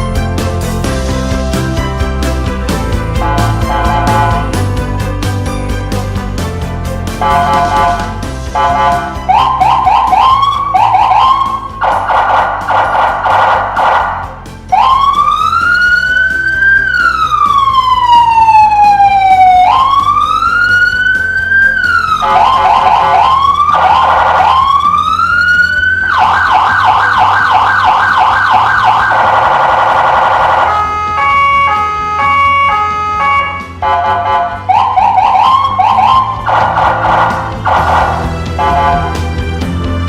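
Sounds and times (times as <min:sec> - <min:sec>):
electronic vehicle siren: 0:03.2 - 0:04.5, 0:07.2 - 0:39.2.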